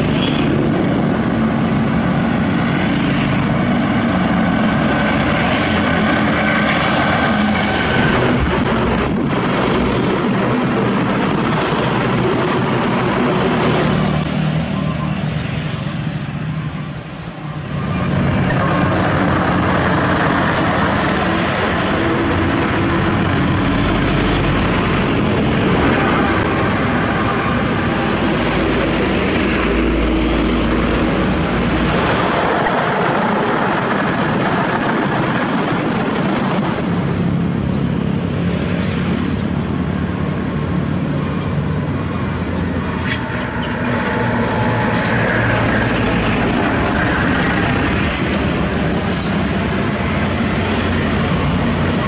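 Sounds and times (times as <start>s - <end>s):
heavy trucks driving past: 0.0s - 52.0s
motorbike traffic: 0.0s - 52.0s.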